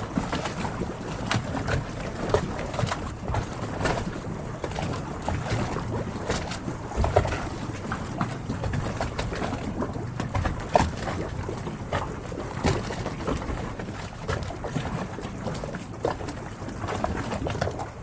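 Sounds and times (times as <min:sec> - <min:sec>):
small knocks and splashes: 0:00.0 - 0:18.0
water lapping against boat hulls: 0:00.0 - 0:18.0.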